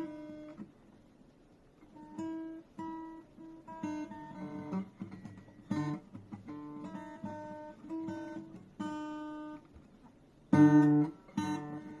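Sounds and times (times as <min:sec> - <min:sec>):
acoustic guitar chords: 0:00.0 - 0:01.0, 0:01.7 - 0:12.0.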